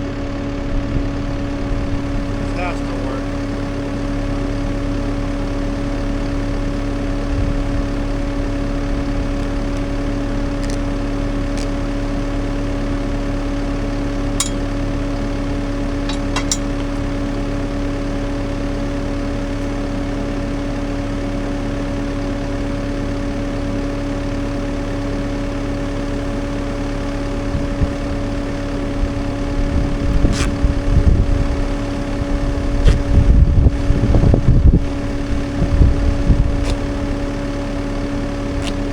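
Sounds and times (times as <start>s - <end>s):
uneven low rumbling: 0.0s - 22.8s, 27.0s - 38.9s
track loader engine humming: 0.0s - 38.9s.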